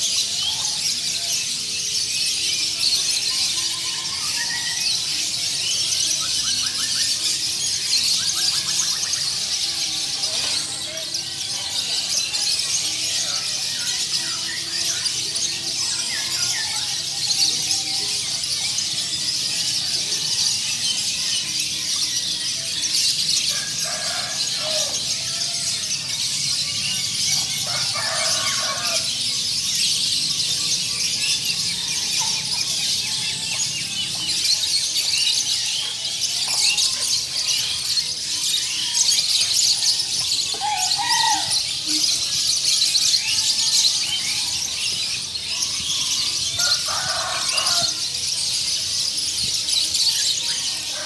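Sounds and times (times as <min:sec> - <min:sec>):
songbirds chirping chorus: 0:00.0 - 0:51.0.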